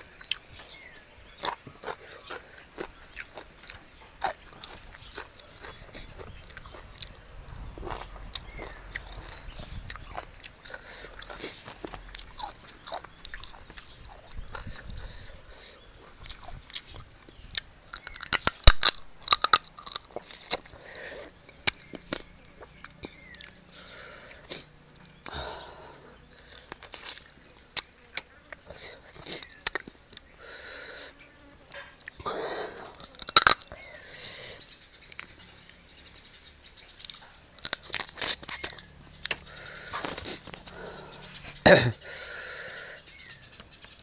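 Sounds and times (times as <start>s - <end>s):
person chewing food: 0.0s - 30.3s, 31.7s - 33.8s, 37.0s - 42.5s.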